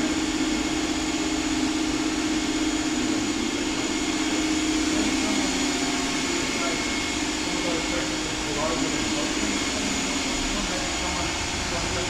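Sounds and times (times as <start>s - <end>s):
engine-like hum: 0.0s - 12.0s.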